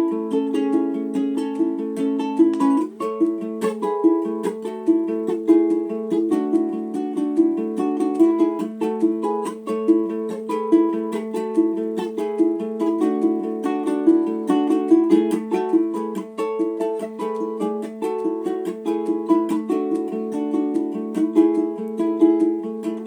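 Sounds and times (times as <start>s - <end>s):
ukulele plucked notes and chords: 0.0s - 23.0s.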